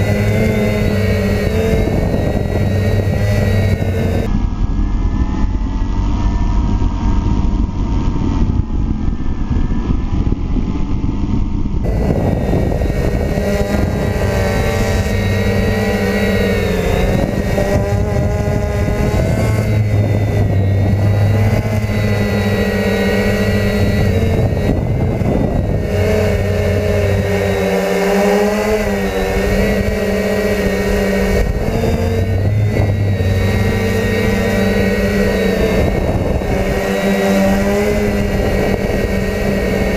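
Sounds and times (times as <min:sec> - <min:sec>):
low rumble: 0:00.0 - 0:27.6, 0:31.2 - 0:36.8
drone motors whining: 0:00.0 - 0:39.9.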